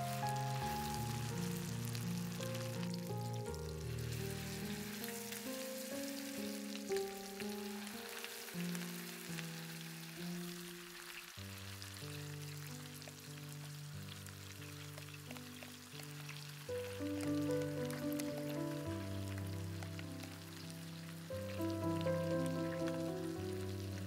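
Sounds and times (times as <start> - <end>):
background music of held notes: 0.0 - 24.0
chicken sizzling in hot fat: 0.0 - 24.0.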